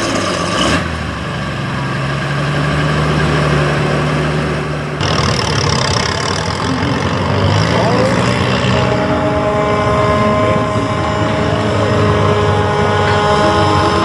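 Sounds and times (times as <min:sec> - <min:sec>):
tractor engine running loud: 0:00.0 - 0:14.0
steady whine: 0:01.2 - 0:14.0.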